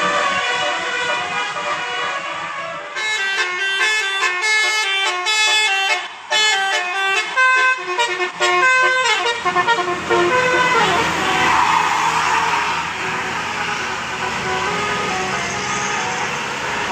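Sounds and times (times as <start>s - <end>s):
bus horn playing a tune: 0.0s - 16.9s.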